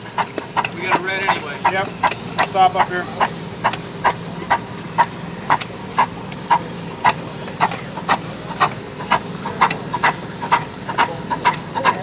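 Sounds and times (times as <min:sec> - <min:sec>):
steam locomotive exhaust chuffing: 0:00.0 - 0:12.0.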